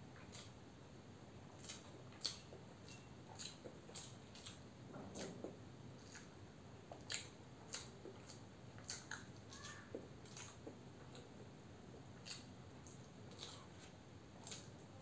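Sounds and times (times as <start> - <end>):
person chewing: 0.2 - 0.6, 1.5 - 15.0.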